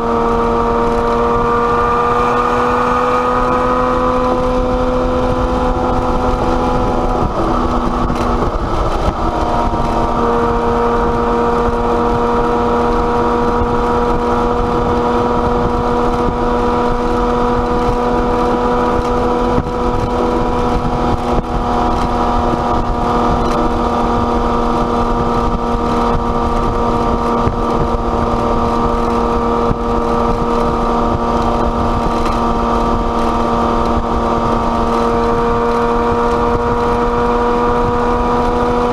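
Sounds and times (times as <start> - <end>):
car engine droning: 0.0 - 38.9
loud rushing noise: 0.0 - 38.9.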